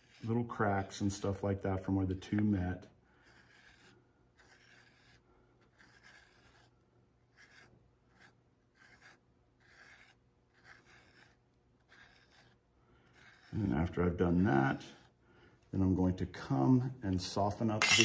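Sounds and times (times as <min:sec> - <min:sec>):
hand rubbing clay: 0:00.0 - 0:15.2.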